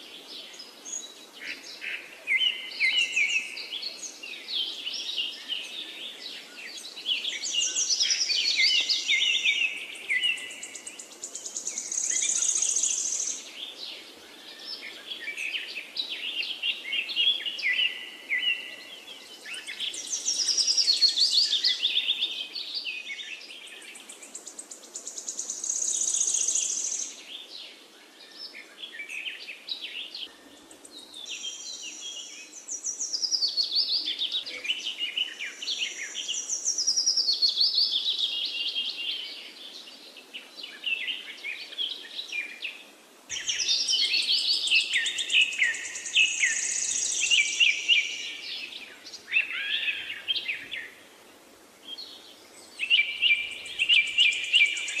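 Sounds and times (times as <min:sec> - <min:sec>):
birds singing: 0:00.0 - 0:51.1, 0:51.8 - 0:55.0
faint outdoor hiss: 0:00.0 - 0:55.0.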